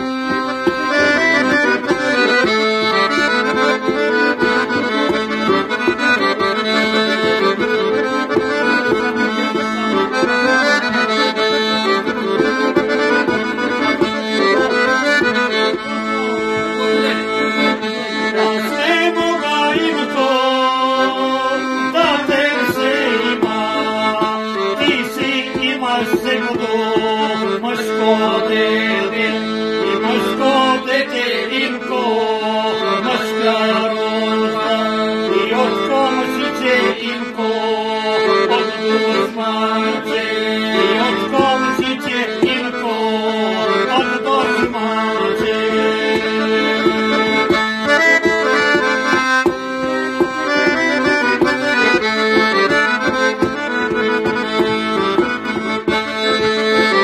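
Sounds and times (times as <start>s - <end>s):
accordion playing folk tune: 0.0s - 57.0s.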